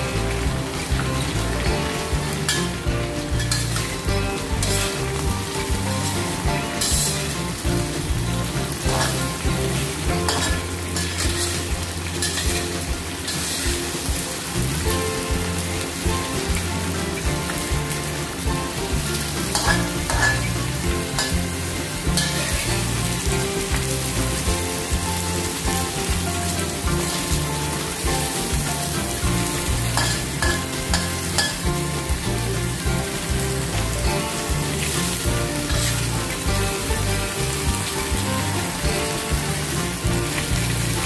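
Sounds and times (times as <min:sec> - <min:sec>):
spatula scraping a wok: 0:00.0 - 0:14.1, 0:16.5 - 0:37.6
fish sizzling in oil: 0:00.0 - 0:41.0.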